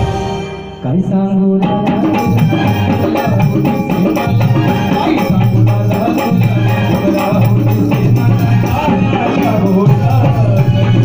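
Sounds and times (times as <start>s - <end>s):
folk song singing: 0.0s - 11.0s
sustained instrumental notes: 0.0s - 11.0s
hand percussion: 1.6s - 11.0s
jingling rattle percussion: 2.0s - 11.0s.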